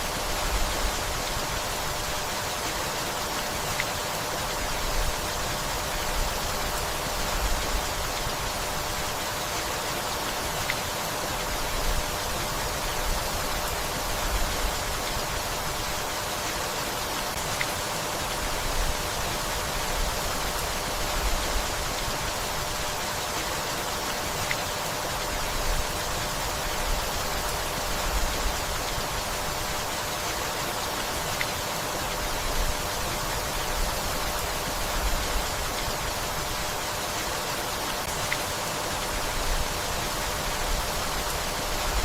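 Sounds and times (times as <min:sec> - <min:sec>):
steady rainfall: 0:00.0 - 0:42.0.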